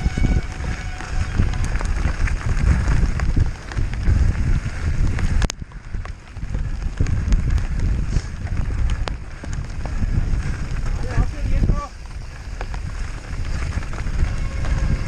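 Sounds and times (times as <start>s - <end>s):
bike rattling: 0.0s - 15.0s
wind buffeting the microphone: 0.0s - 15.0s.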